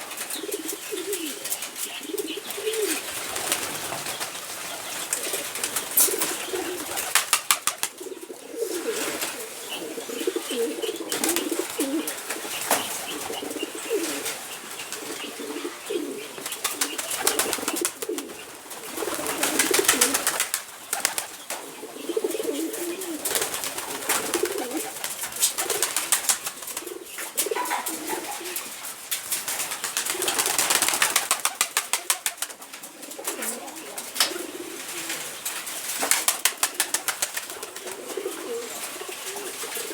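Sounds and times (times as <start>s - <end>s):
poultry cooing and murmuring: 0.0s - 7.2s, 7.8s - 20.4s, 21.0s - 29.0s, 32.1s - 35.6s, 36.7s - 39.9s.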